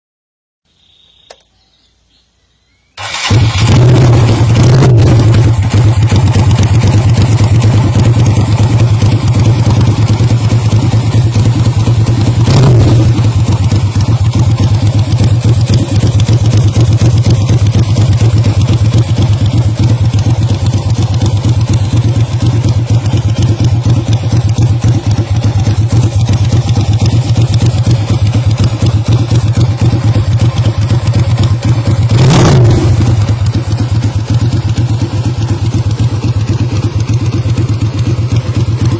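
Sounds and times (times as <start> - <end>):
motorcycle throttle blips: 1.0 - 1.5, 3.0 - 38.9
motorcycle engine idling: 3.0 - 38.9.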